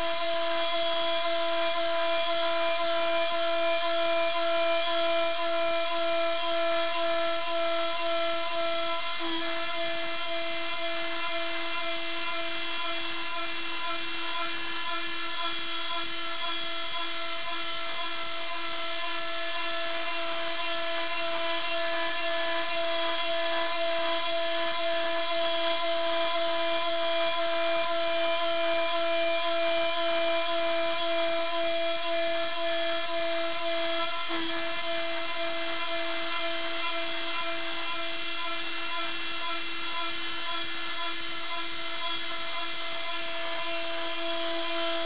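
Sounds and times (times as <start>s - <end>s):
low pulsing tone: 0.0s - 45.0s
router spindle whine: 0.0s - 45.0s.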